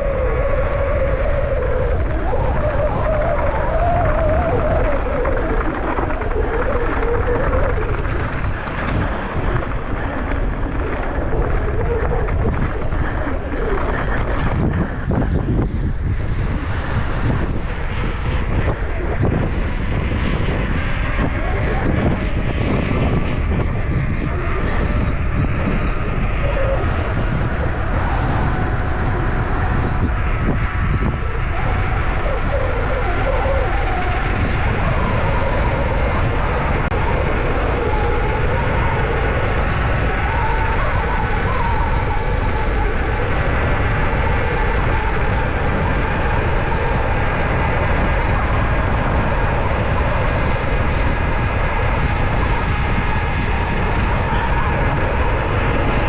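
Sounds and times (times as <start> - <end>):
wind noise on microphone: 0.0 - 56.0
bike rattling over rough ground: 0.8 - 56.0.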